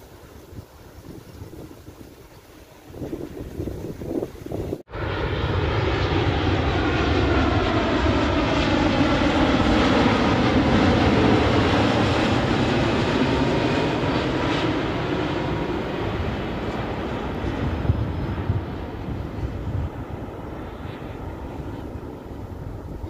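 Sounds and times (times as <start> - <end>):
jet plane flying overhead: 2.8 - 23.0.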